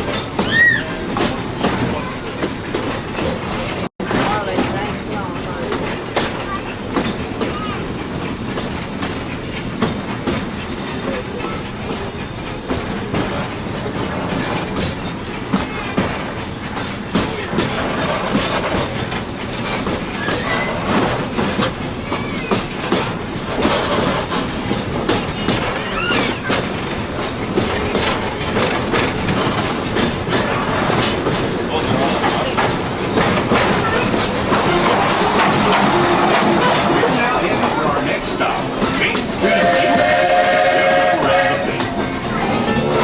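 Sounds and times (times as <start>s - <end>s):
train wheels clicking over rail joints: 0.0s - 43.0s.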